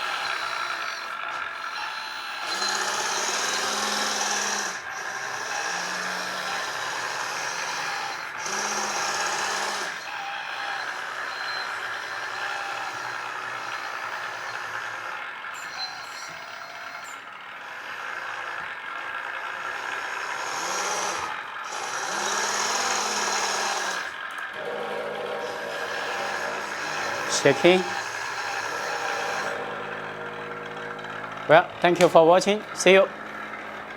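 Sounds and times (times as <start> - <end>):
toy road roller motors whirring: 0.0 - 33.9.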